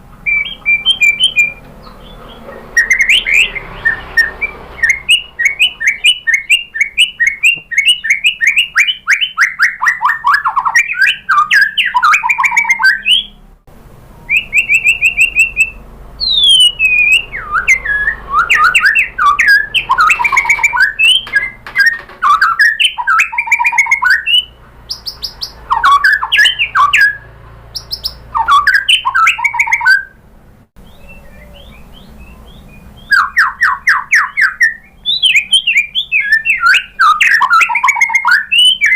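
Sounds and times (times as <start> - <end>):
songbird singing varied phrases: 0.2 - 13.4, 14.2 - 30.2, 30.8 - 38.9.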